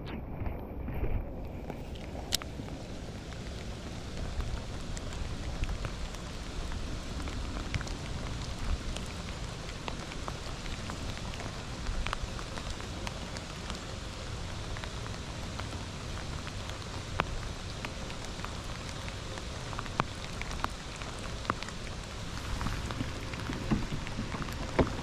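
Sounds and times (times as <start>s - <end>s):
rain hissing on lake: 0.0s - 25.0s
raindrops ticking close by: 0.4s - 25.0s.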